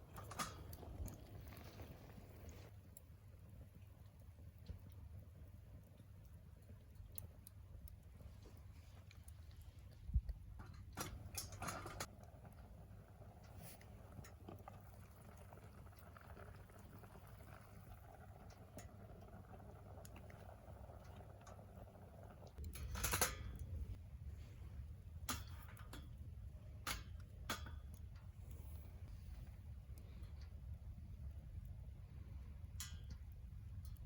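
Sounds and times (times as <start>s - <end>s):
fire popping: 0.0s - 34.0s
wood fire crackling: 0.0s - 34.0s.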